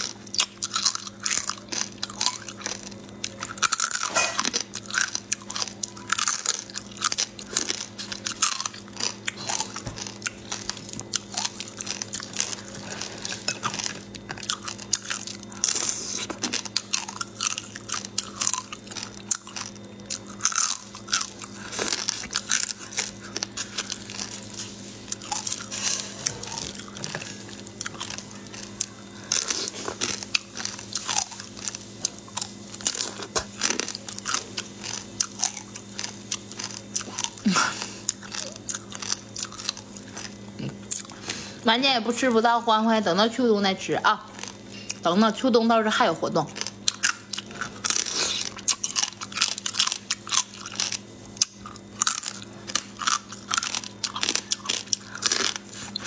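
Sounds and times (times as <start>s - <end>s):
crunching shellfish shells: 0.0s - 41.6s, 44.3s - 45.1s, 46.4s - 56.0s.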